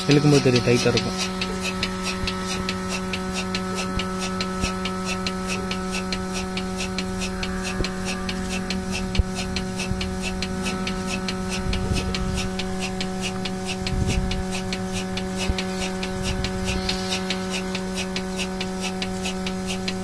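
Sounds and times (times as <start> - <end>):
fast regular ticking: 0.0 - 20.0
milking machine motor hum: 0.0 - 20.0.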